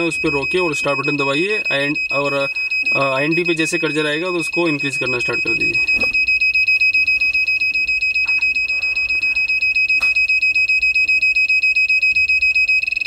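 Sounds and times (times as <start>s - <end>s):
rapid high-pitched beeps: 0.0s - 13.0s.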